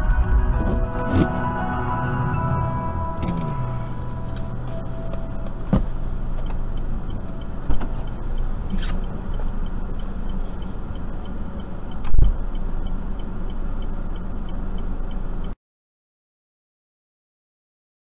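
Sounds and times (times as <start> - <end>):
car engine idling: 0.0 - 15.6
turn-signal relay ticking: 0.7 - 15.6.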